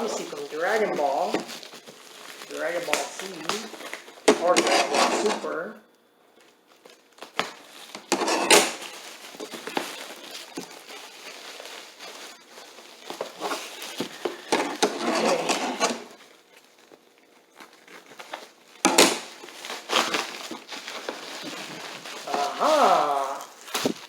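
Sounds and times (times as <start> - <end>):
wrapping paper crinkling: 0.0 - 5.6, 6.4 - 24.0.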